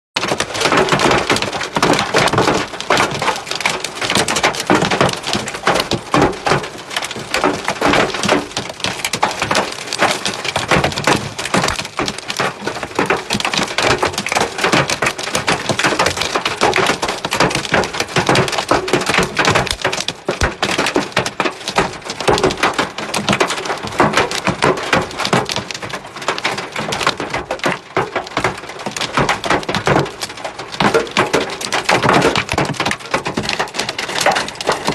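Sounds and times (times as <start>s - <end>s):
hail striking hard surfaces: 0.2s - 34.9s.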